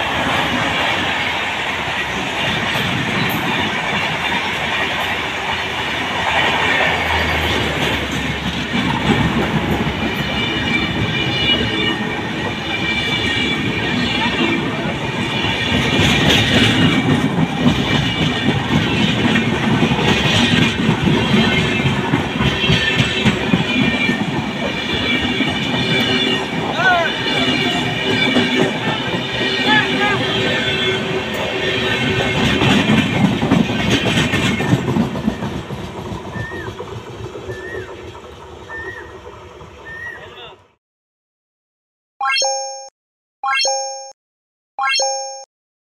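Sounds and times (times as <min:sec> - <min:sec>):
train wheels rumbling on rail: 0:00.0 - 0:40.8.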